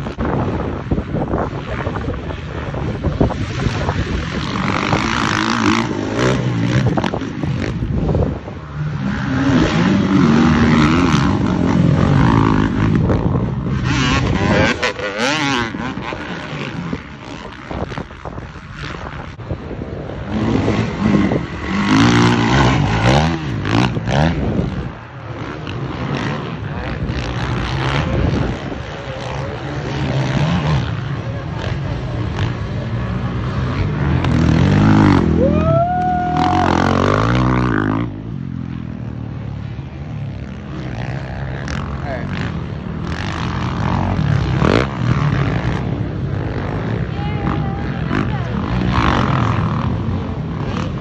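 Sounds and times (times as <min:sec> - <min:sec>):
motocross bike engines revving: 0:00.0 - 0:51.0.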